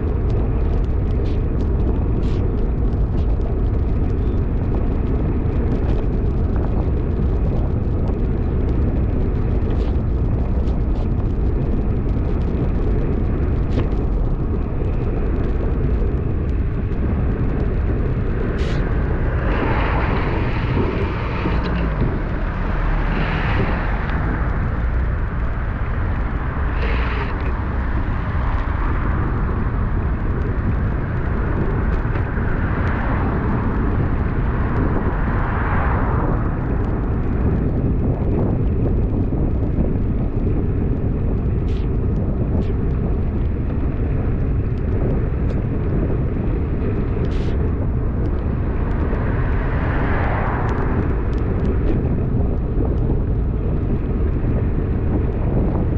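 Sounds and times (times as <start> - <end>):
wet road noise: 0.0 - 55.9
wind rushing on microphone: 0.0 - 55.9.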